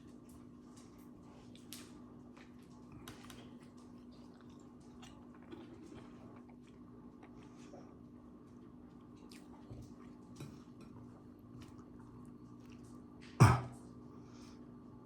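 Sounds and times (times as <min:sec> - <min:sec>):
chewing and mouth sounds: 0:00.1 - 0:14.0.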